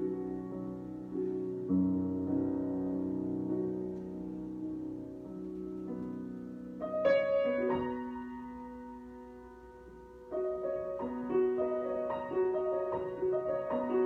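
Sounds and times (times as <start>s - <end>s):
solo piano chords: 0.0s - 14.0s.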